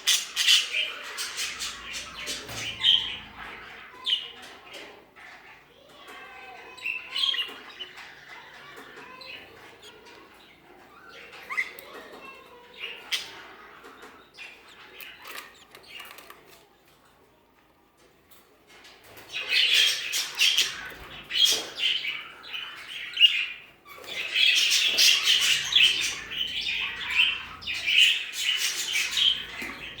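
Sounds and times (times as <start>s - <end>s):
budgerigars chirping and squawking: 0.0s - 16.6s, 19.1s - 30.0s.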